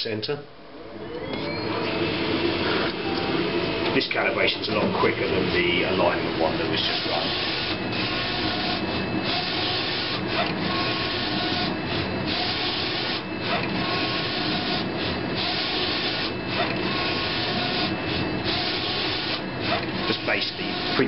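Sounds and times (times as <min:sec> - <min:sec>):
printer carriage whirring: 0:00.6 - 0:21.0.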